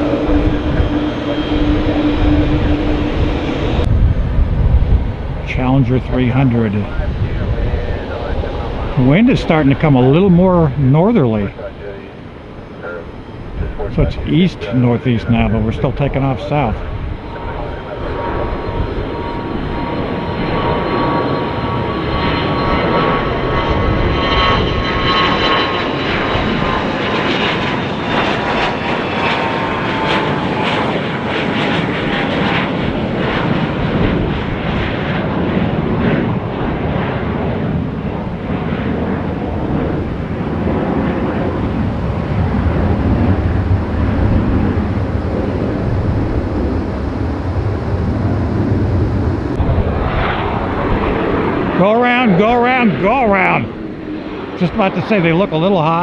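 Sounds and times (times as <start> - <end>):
jet roar passing overhead: 0.0 - 56.0.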